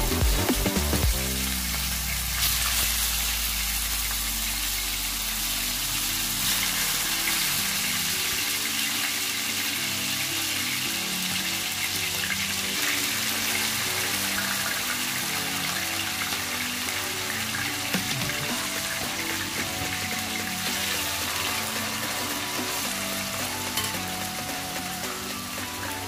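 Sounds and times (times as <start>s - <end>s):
soft background music: 0.0s - 26.0s
food sizzling in hot oil: 1.1s - 26.0s.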